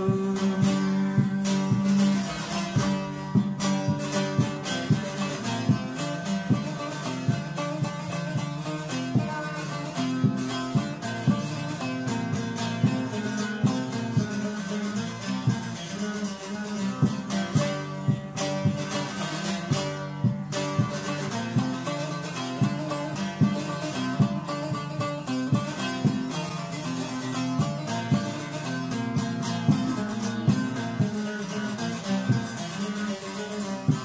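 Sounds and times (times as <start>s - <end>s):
plucked string instrument melody: 0.0s - 34.0s.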